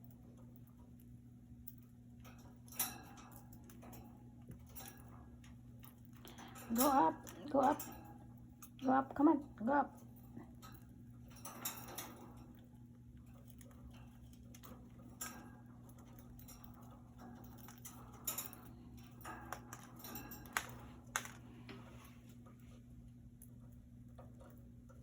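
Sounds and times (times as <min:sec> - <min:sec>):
light clicks and taps in cage: 0:00.0 - 0:25.0
steady low hum: 0:00.0 - 0:25.0.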